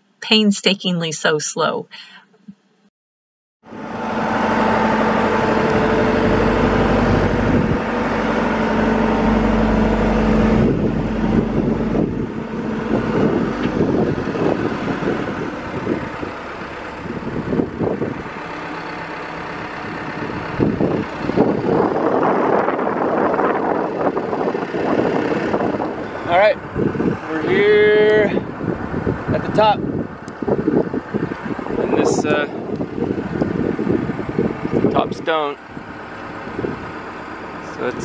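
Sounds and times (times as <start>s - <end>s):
telehandler engine running: 3.7s - 38.0s.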